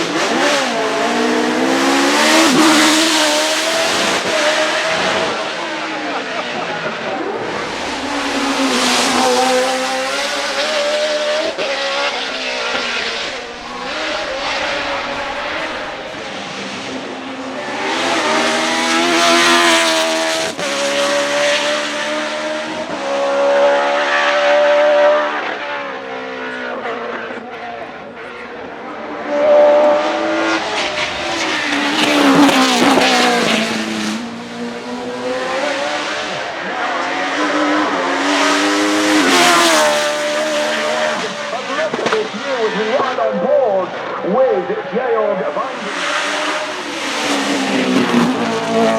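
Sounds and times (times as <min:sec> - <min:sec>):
race car engine revving: 0:00.0 - 0:43.2, 0:45.4 - 0:48.9.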